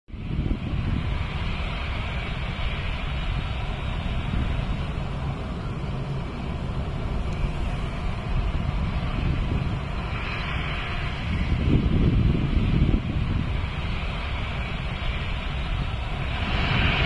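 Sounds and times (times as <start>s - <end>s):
jet engines humming: 0.1s - 17.0s
wind buffeting microphone: 0.1s - 17.0s.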